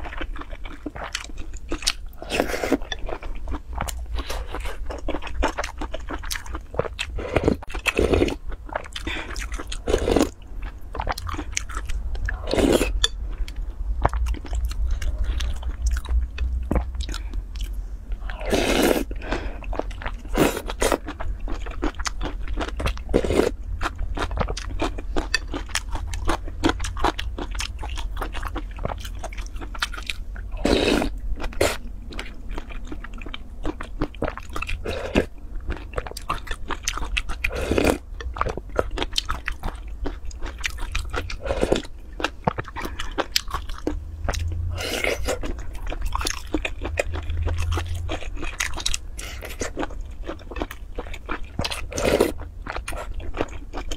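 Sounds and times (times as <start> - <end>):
chewing with wet mouth smacks: 0.0 - 18.3, 19.0 - 53.9.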